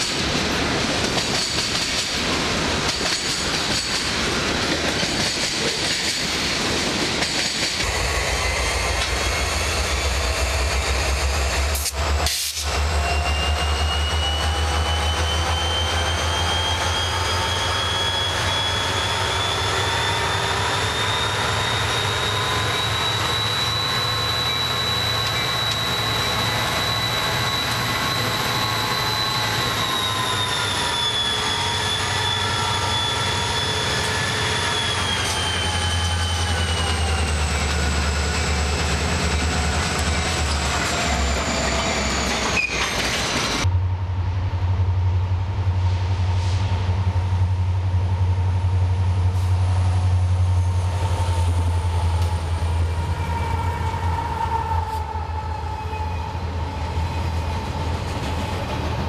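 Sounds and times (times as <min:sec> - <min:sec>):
freight train rumbling: 0:00.0 - 0:59.0
steady train whine: 0:00.0 - 0:59.0
high squealing wheels: 0:07.2 - 0:43.7, 0:46.3 - 0:59.0.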